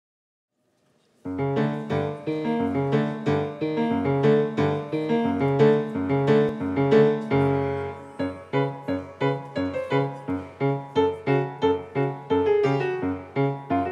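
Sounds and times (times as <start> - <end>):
grand piano playing: 1.2 - 13.9.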